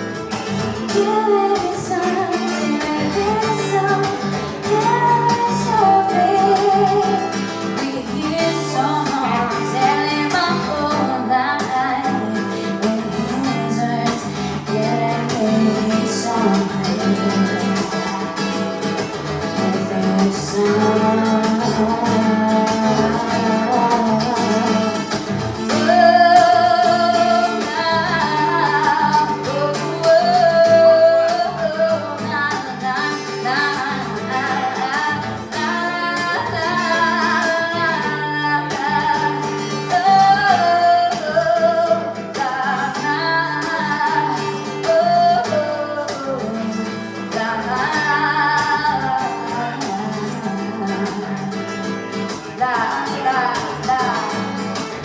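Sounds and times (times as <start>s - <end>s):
person singing: 0.0s - 18.6s, 19.4s - 51.8s, 52.4s - 55.0s
acoustic guitar strumming: 0.0s - 55.0s.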